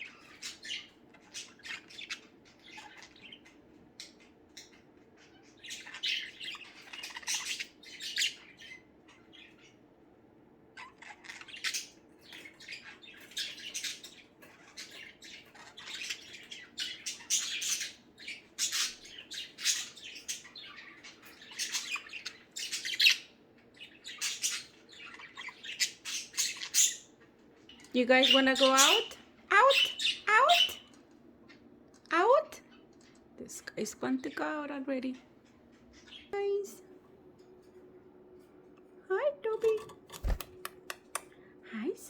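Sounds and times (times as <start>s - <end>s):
budgerigars chirping and squawking: 0.0s - 36.8s, 39.6s - 40.4s
faint low hum: 0.0s - 42.0s.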